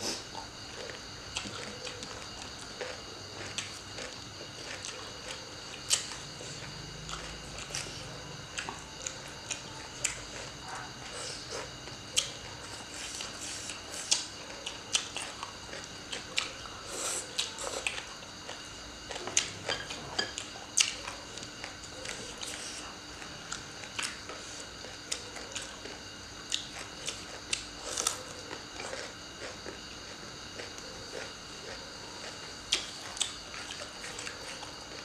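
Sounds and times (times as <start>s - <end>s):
people chewing and biting food: 0.0s - 35.0s.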